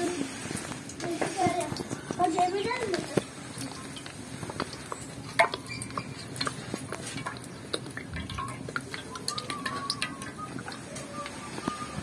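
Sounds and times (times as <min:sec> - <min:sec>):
utensils and dishes clinking: 0:00.0 - 0:12.0.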